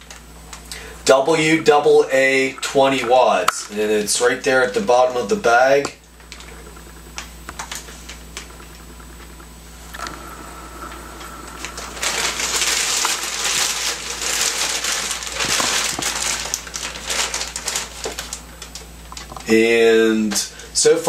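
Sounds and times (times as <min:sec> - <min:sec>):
plastic bag rustling: 0:00.0 - 0:05.4, 0:06.2 - 0:19.6.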